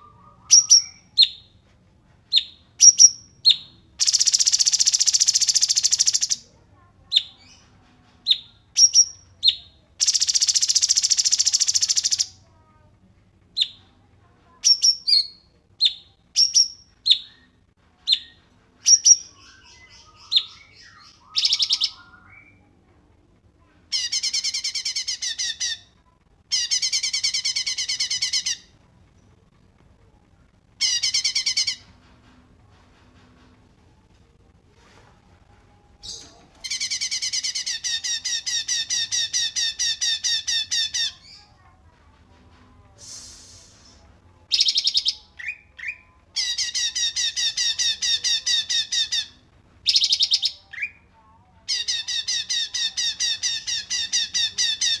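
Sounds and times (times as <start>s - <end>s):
songbird chirps: 0.0s - 55.0s.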